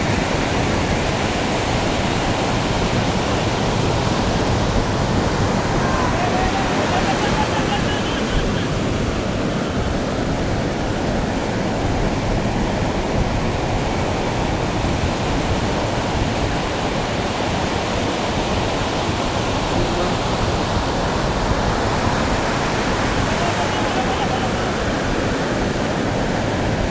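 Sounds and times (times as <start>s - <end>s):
surf breaking on a beach: 0.0s - 26.9s.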